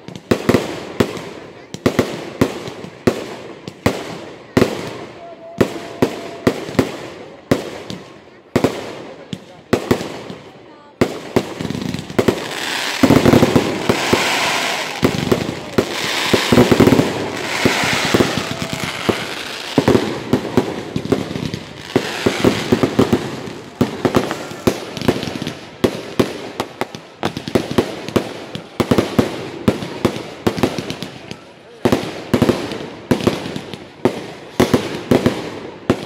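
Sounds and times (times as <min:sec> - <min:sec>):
fireworks crackling: 0:00.0 - 0:36.0
fireworks pops and bangs: 0:00.0 - 0:36.0.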